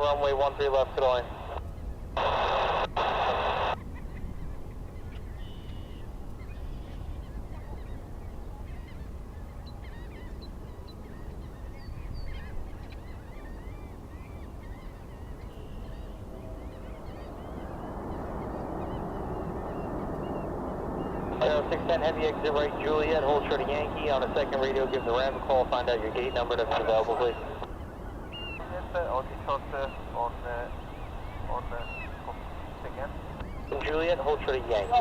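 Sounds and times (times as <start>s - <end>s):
jet airliner noise: 0.0s - 35.0s
birds honking and chirping: 3.5s - 35.0s.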